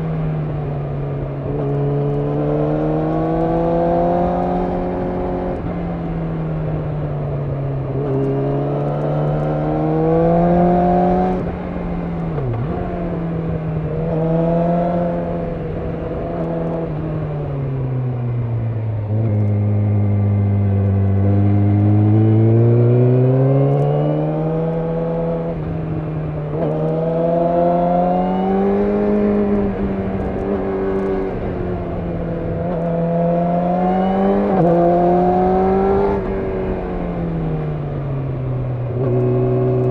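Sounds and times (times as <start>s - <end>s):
motorcycle engine revving with gear changes: 0.0s - 39.9s.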